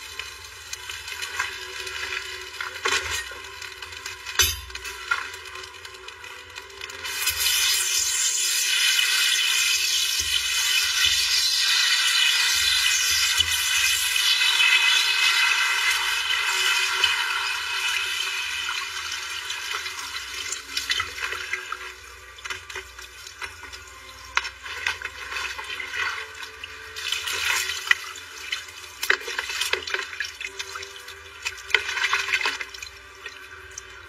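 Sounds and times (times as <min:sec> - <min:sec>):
water pouring and splashing: 0:00.0 - 0:34.0.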